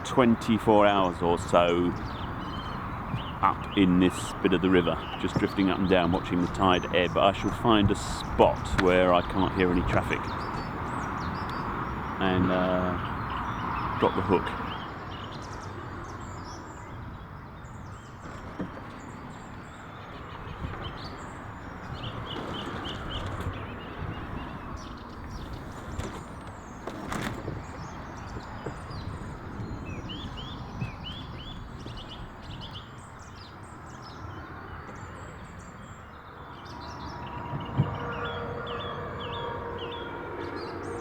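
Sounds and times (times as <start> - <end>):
road traffic rumble: 0.0 - 41.0
small birds chirping: 0.0 - 41.0.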